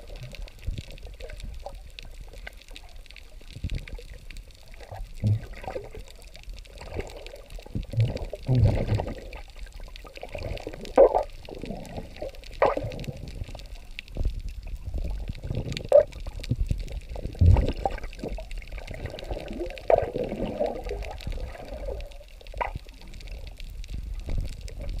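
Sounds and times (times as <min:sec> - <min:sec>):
muffled underwater water sloshing: 0:00.0 - 0:25.0.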